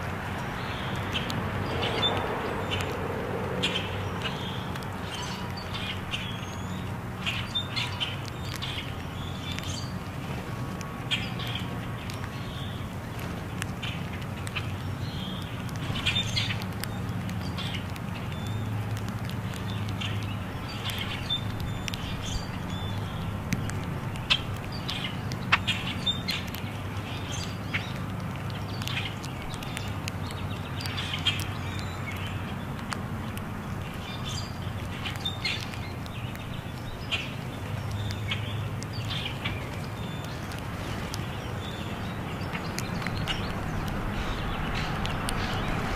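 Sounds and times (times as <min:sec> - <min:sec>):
birds squeaky calls and chirps: 0:00.3 - 0:45.9.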